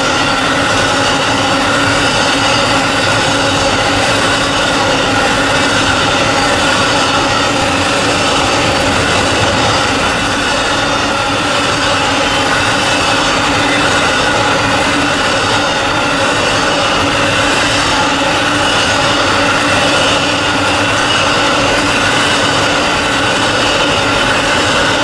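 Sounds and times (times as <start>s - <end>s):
whining tones: 0.0s - 23.8s
train wheels rushing on rail: 0.0s - 25.0s.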